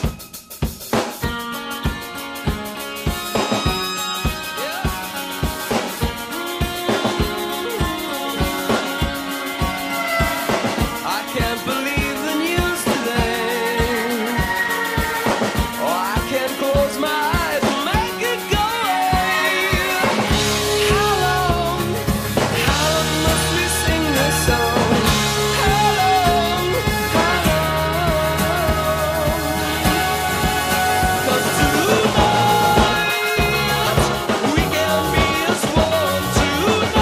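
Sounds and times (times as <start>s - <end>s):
song with steady drum beat: 0.0s - 37.0s
person singing: 3.4s - 37.0s.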